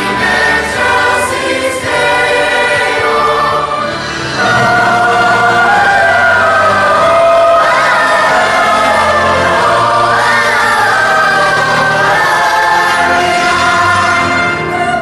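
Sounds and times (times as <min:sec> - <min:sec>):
choir singing held notes: 0:00.0 - 0:15.0
instrumental accompaniment: 0:00.0 - 0:15.0.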